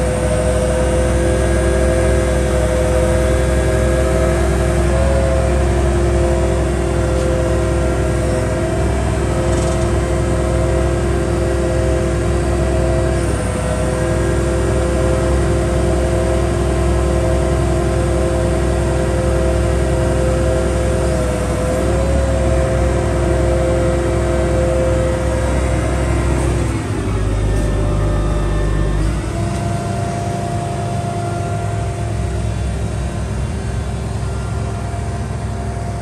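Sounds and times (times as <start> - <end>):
asphalt paver machine hum: 0.0 - 36.0.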